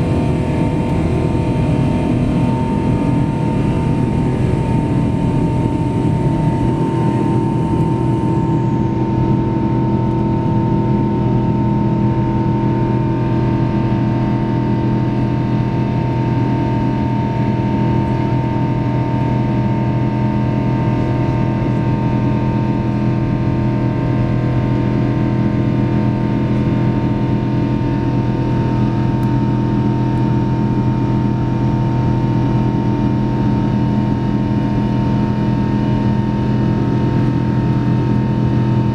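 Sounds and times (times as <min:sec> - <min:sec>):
jet engines drone in cabin: 0:00.0 - 0:38.9.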